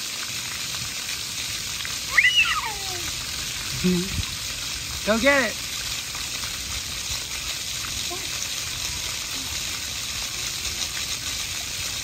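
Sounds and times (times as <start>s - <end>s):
fountain jets splattering on paving: 0.0s - 12.0s.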